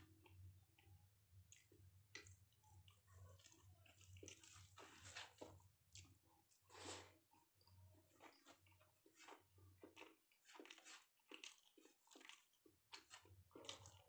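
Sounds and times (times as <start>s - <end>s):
fingers squishing rice: 0.0s - 14.0s
person chewing food: 0.0s - 14.0s.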